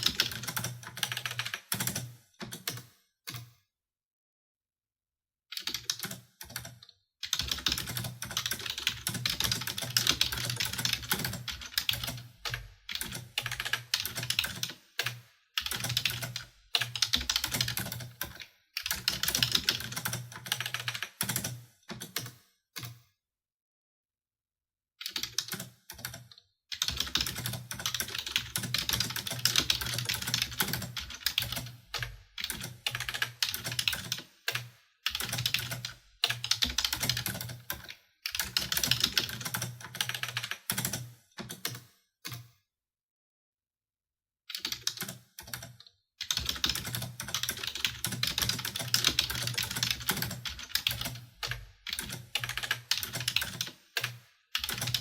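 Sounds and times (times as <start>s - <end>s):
fast typing on a keyboard: 0.0s - 3.5s, 5.5s - 22.4s, 25.0s - 41.9s, 44.5s - 55.0s.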